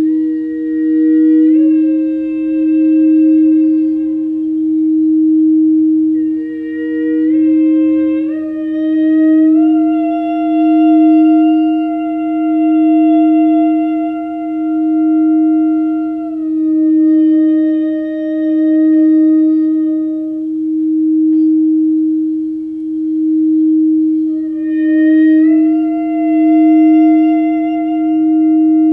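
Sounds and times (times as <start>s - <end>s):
person toning long notes: 0.0s - 28.9s
singing bowl ringing: 0.0s - 28.9s.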